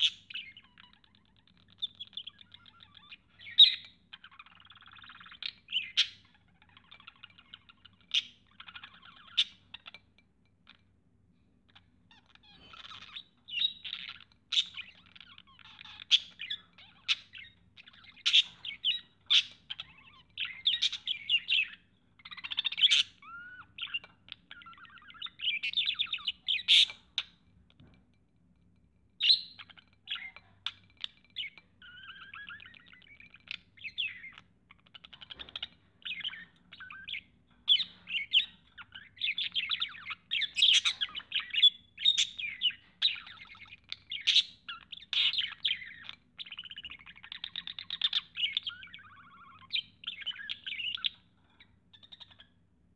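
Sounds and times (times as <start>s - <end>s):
budgerigar warbling and chattering: 0.0s - 9.9s, 12.1s - 27.4s, 29.2s - 52.6s.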